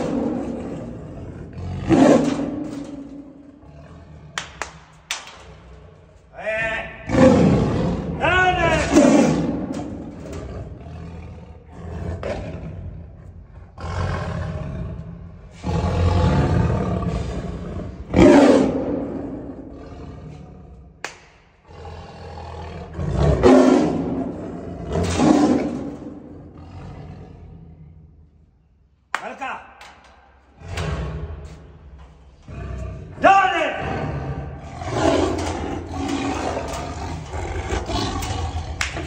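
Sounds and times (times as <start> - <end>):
tiger snarling and growling: 0.0 - 28.4, 30.5 - 39.0.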